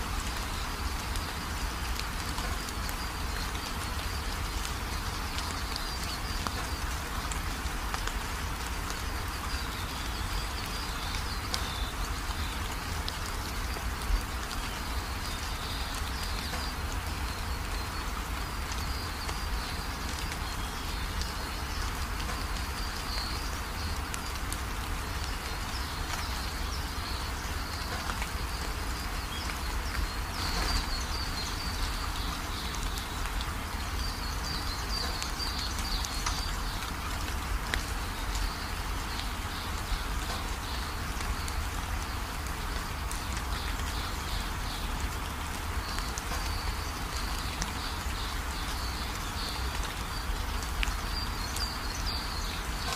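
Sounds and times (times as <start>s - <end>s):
steady rain: 0.0s - 52.9s.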